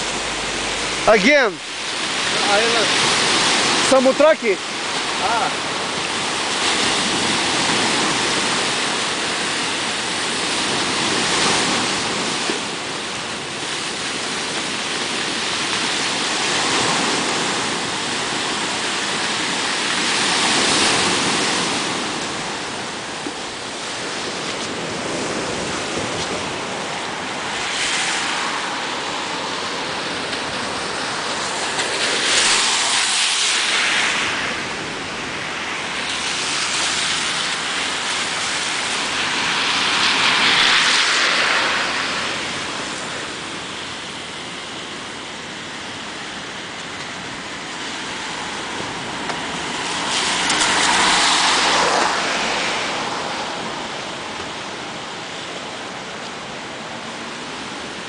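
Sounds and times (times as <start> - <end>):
surf breaking on shore: 0.0 - 58.0.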